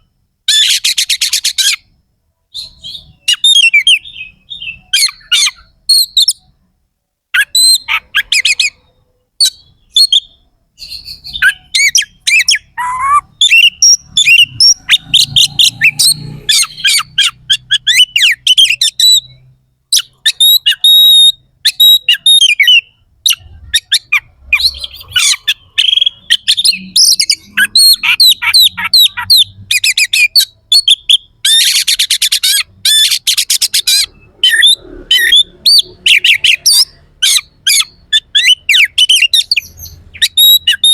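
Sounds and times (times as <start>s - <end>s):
magpie-robin singing: 0.0s - 1.9s, 2.5s - 6.6s, 7.4s - 40.9s.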